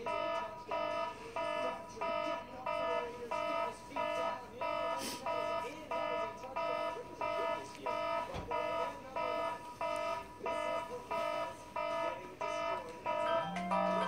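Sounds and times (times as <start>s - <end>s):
electronic alarm beeping: 0.0s - 14.0s.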